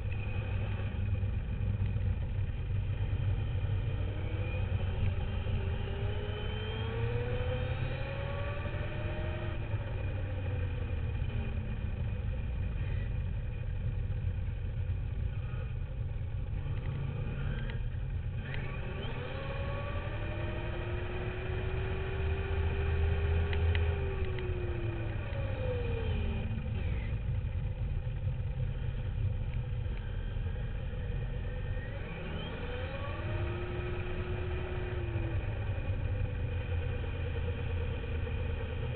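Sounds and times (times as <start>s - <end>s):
low rumble: 0.0s - 38.9s.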